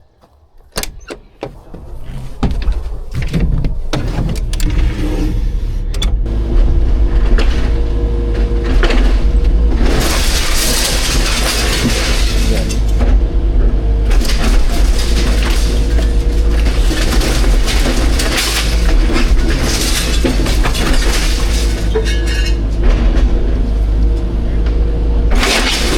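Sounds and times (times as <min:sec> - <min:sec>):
crackling crunching noise: 0:00.0 - 0:25.9
excavator diesel engine running: 0:00.0 - 0:25.9
knocks and clatter: 0:00.2 - 0:25.9.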